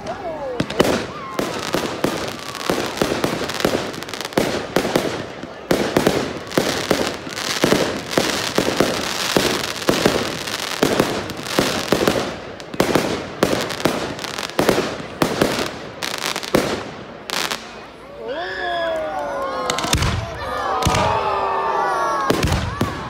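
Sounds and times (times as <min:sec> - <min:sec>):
fireworks bangs: 0:00.0 - 0:17.9, 0:19.7 - 0:21.2, 0:22.2 - 0:23.0
fireworks crackling: 0:00.0 - 0:18.0, 0:22.2 - 0:23.0.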